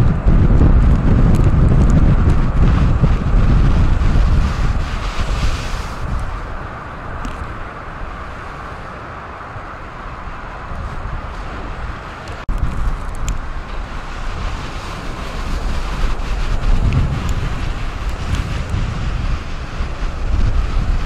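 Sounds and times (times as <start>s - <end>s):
choppy waves: 0.0s - 21.0s
wind buffeting microphone: 0.0s - 21.0s.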